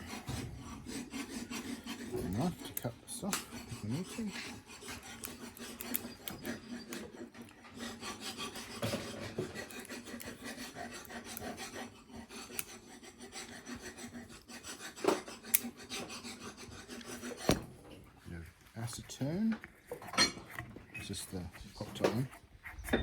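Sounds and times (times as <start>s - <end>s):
hand scraping and rubbing: 0.0s - 23.0s.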